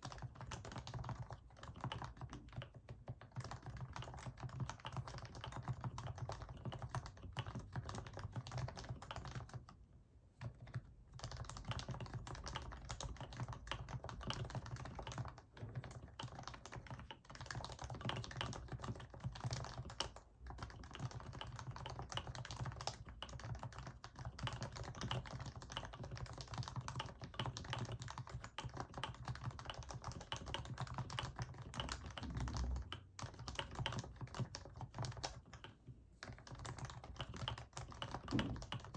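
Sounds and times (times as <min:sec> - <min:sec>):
keyboard typing: 0:00.0 - 0:09.8, 0:10.4 - 0:38.9.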